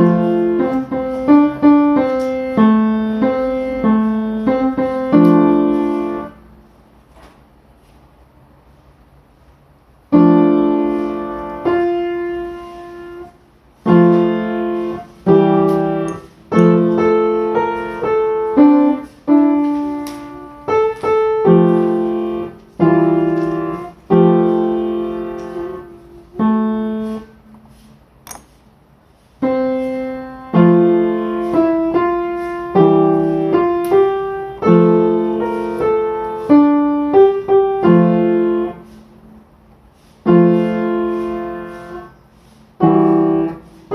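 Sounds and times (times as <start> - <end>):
slow solo piano: 0.0 - 6.5, 10.0 - 27.9, 29.4 - 43.9.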